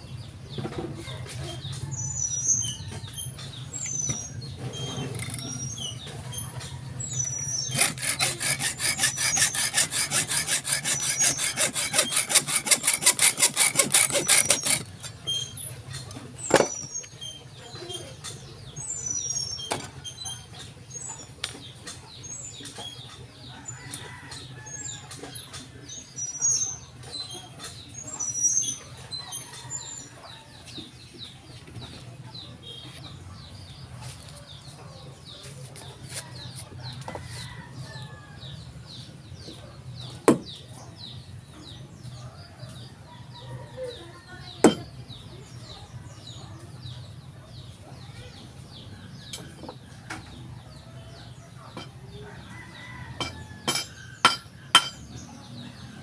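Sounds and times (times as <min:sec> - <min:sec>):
birds chirping: 0:01.7 - 0:56.0.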